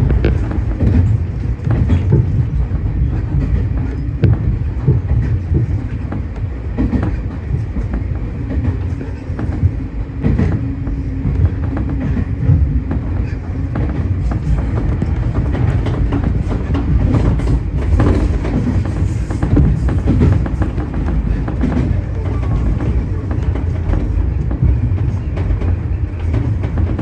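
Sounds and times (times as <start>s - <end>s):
steady hum: 0.0s - 27.0s
train rumble: 0.0s - 27.0s
wheels clicking over rail joints: 0.0s - 27.0s.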